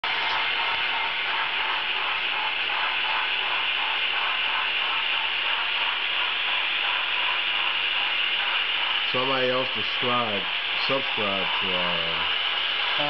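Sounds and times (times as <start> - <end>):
model train hiss: 0.1 - 13.0.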